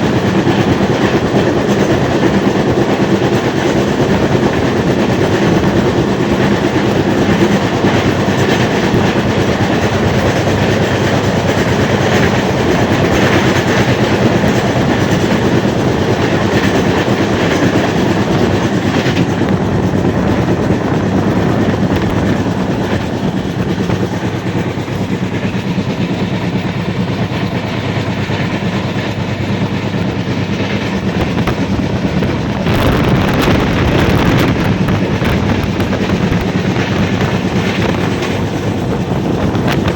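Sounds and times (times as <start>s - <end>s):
train rumbling on tracks: 0.0s - 39.9s.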